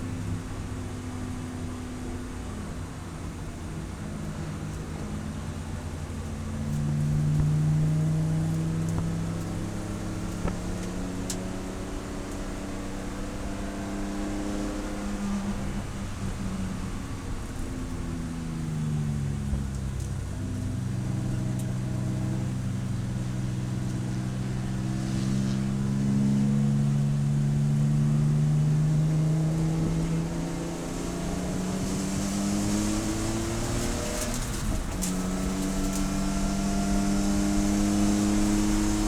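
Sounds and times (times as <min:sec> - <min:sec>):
race car engine: 0:00.0 - 0:39.0.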